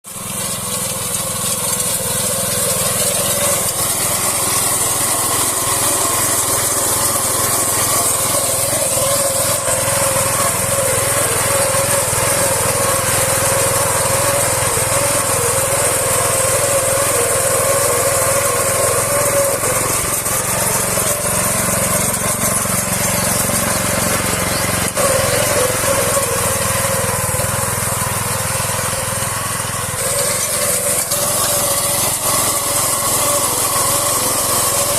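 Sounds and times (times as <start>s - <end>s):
combine harvester engine drone: 0.1s - 34.9s.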